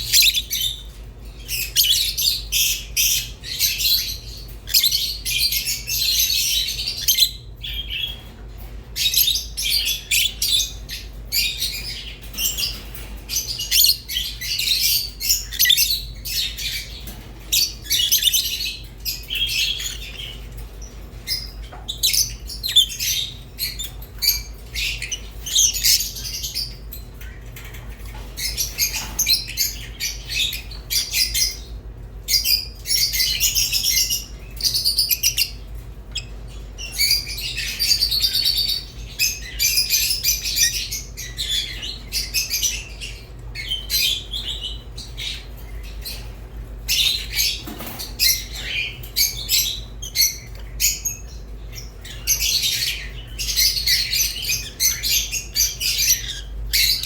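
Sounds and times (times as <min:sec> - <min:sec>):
lovebirds chirping and squawking: 0:00.0 - 0:57.0.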